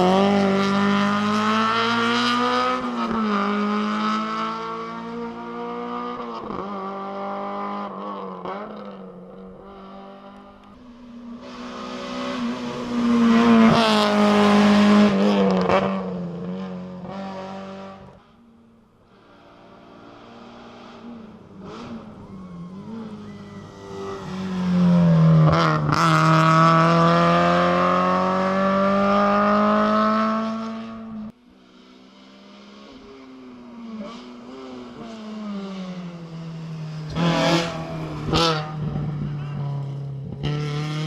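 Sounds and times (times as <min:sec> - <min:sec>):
rally car engine passing: 0:00.0 - 0:41.0.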